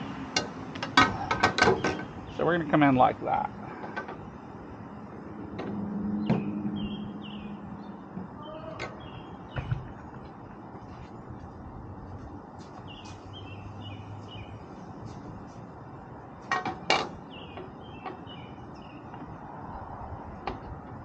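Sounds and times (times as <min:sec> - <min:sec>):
outdoor background noise: 0:00.0 - 0:21.0
birds chirping: 0:01.0 - 0:20.1.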